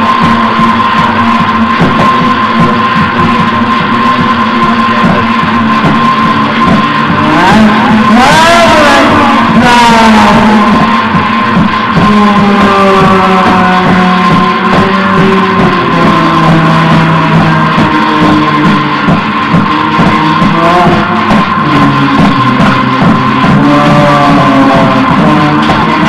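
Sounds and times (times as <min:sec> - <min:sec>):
droning noise music: 0:00.0 - 0:26.0.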